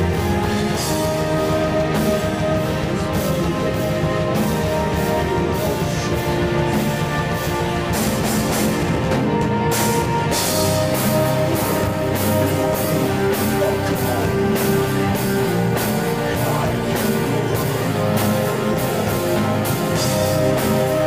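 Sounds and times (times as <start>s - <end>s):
distorted electric guitar: 0.0s - 21.0s
drum kit: 0.0s - 21.0s.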